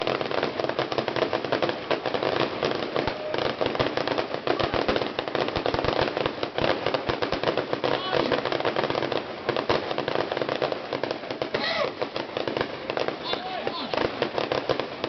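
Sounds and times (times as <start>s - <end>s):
deep firework thumps: 0.0s - 15.0s
fireworks crackling: 0.0s - 15.0s.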